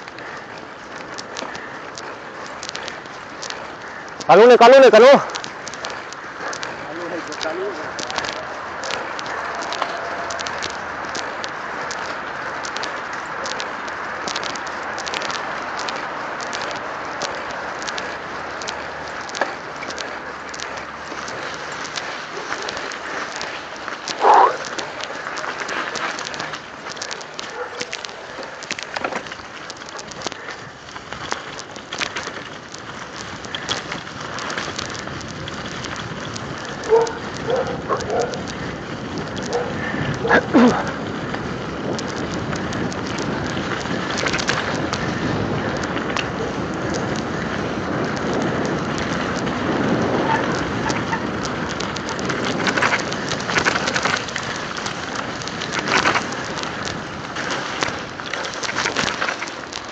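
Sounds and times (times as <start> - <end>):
bike rattling clicks: 0.0 - 59.9
bike tyres rolling through slush: 0.0 - 59.9.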